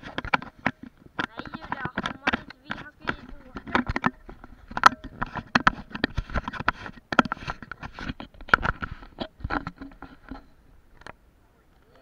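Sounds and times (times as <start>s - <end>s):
camera handling noise: 0.0s - 11.2s.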